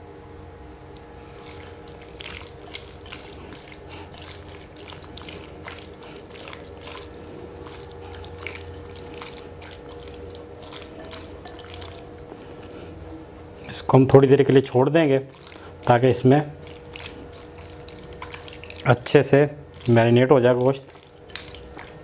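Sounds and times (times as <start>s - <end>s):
hand squelching raw chicken: 1.4s - 12.6s, 14.2s - 22.0s.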